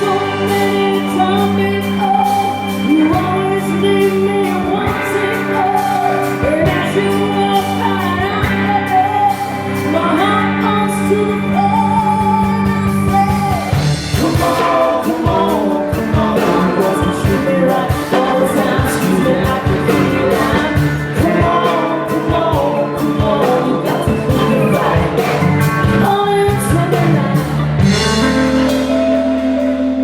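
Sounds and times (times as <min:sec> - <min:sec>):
drums: 0:00.0 - 0:30.0
live blues-rock band playing: 0:00.0 - 0:30.0
person singing: 0:00.0 - 0:30.0.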